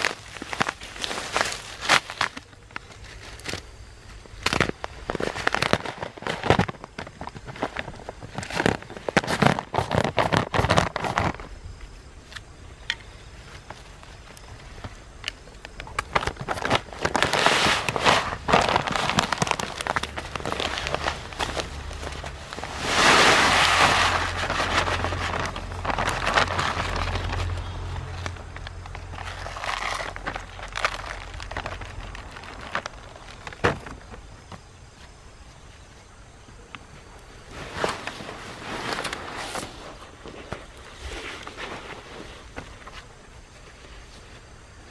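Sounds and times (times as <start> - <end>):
paper sack rustling: 0.0 - 11.6, 15.8 - 34.6, 37.4 - 44.3.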